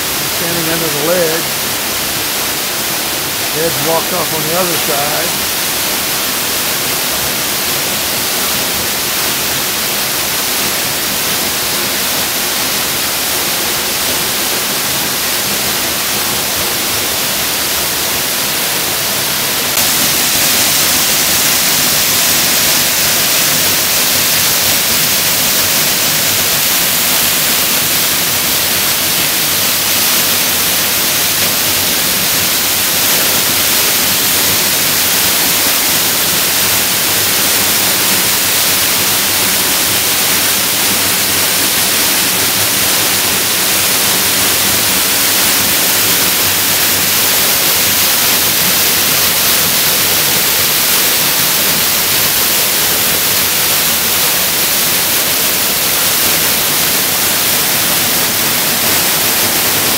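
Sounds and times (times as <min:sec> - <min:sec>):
waterfall splashing onto rocks: 0:00.0 - 0:59.9.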